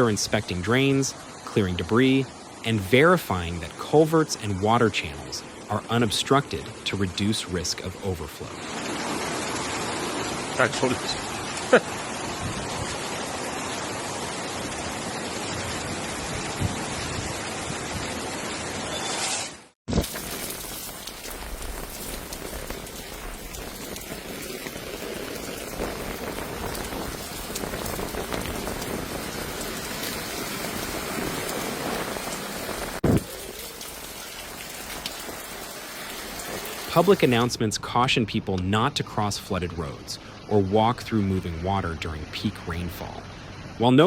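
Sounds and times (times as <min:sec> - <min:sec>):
heavy rain falling: 0:00.0 - 0:19.0, 0:19.9 - 0:37.9.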